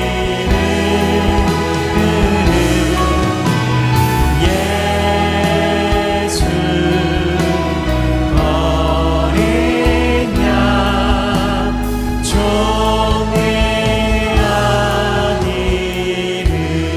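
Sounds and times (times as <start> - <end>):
band with deep bass line: 0.0 - 16.9
congregation singing worship song: 0.0 - 16.9.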